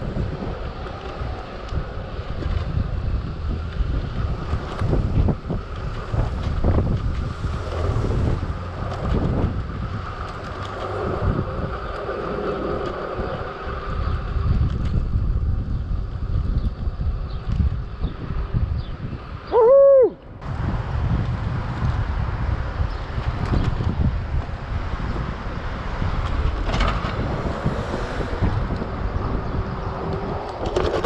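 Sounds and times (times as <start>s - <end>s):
low riding rumble: 0.0s - 31.0s
wind buffeting microphone: 0.0s - 31.0s.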